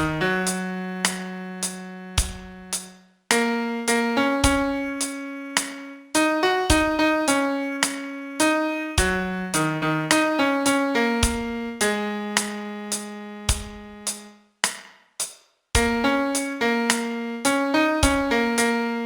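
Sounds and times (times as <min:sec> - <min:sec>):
piano melody: 0:00.0 - 0:14.3, 0:15.8 - 0:19.0.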